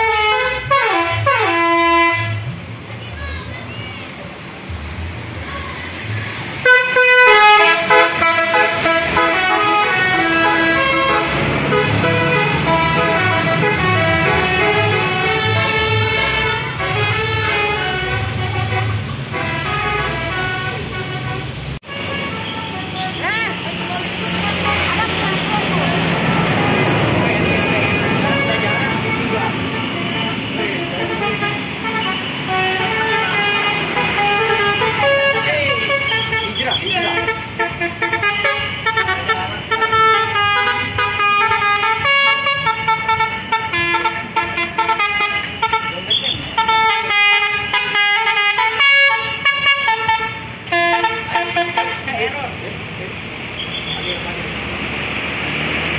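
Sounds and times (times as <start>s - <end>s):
multi-tone bus horn tune: 0.0s - 2.6s, 6.0s - 52.5s
bus engine rumble: 0.0s - 55.9s.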